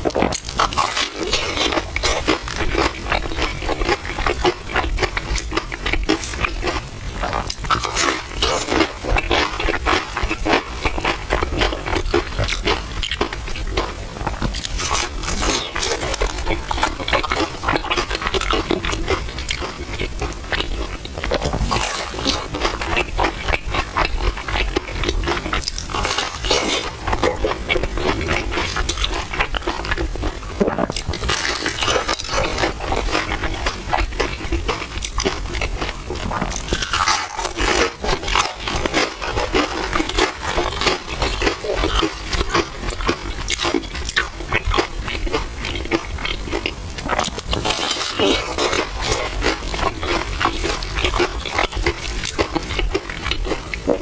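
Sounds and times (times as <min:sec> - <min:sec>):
wet chewing and slurping: 0:00.0 - 0:54.0.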